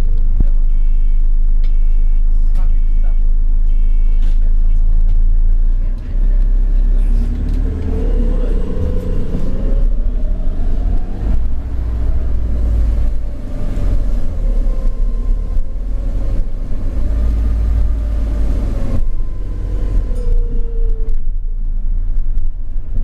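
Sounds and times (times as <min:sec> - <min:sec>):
bus engine deep rumble: 0:00.0 - 0:23.0.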